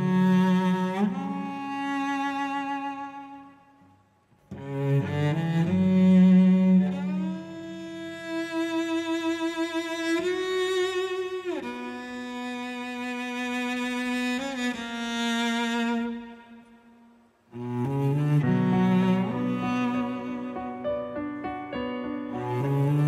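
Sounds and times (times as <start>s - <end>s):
bowed cello notes: 0.0s - 3.6s, 4.5s - 23.0s.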